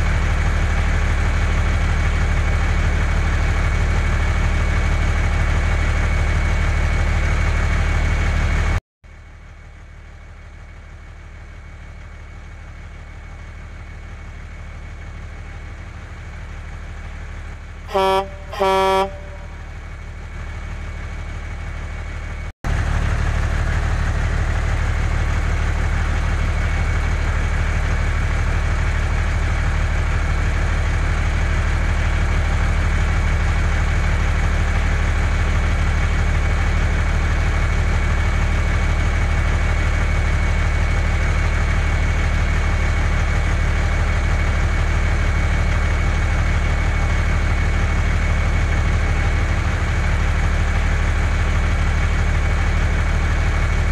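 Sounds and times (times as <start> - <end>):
truck engine idling: 0.1 - 53.9.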